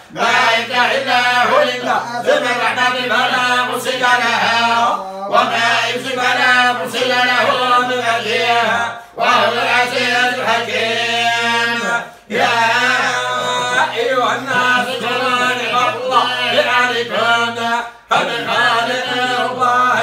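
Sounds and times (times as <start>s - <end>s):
men chanting: 0.0s - 20.0s.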